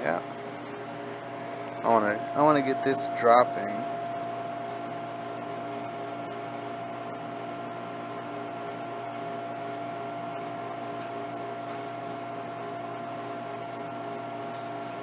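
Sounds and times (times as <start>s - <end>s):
refrigeration compressor humming: 0.0s - 15.0s.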